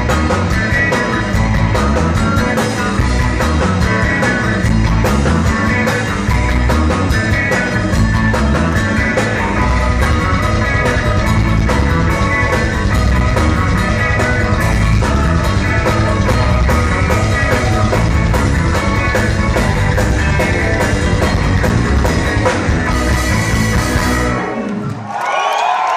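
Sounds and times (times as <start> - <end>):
live rock band: 0.0 - 25.9.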